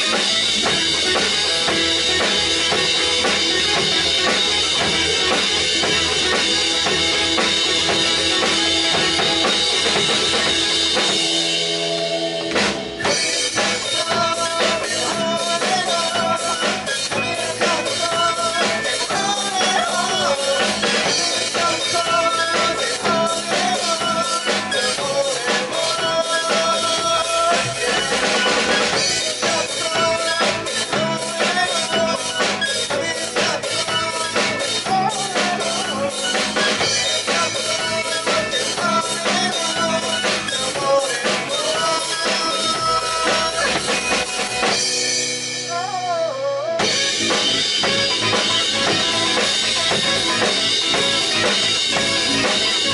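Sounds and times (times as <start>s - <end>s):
bass: 0.0s - 52.9s
drum kit: 0.0s - 52.9s
guitar: 0.0s - 52.9s
keyboard: 0.0s - 52.9s.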